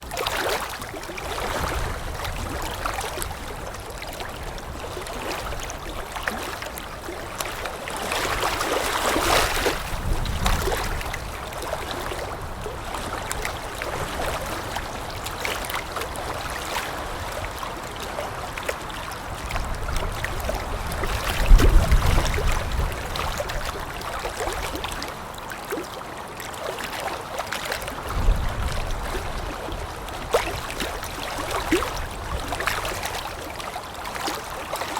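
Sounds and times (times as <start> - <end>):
water lapping: 0.0 - 34.9.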